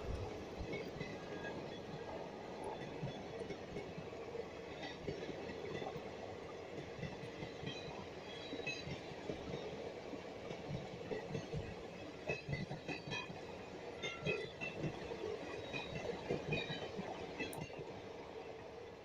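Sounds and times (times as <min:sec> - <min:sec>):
clickety-clack over rail joints: 0:00.0 - 0:18.1
train wheels rumbling on rail: 0:00.0 - 0:18.4.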